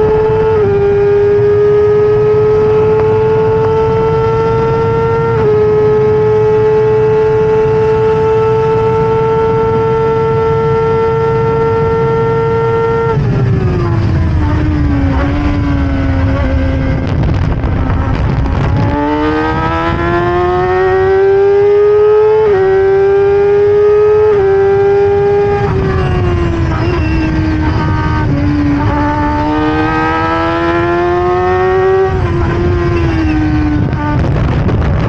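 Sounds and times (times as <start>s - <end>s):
gear changes: 0.0s - 35.0s
race car engine at full throttle: 0.0s - 35.0s
wind and road noise: 0.0s - 35.0s.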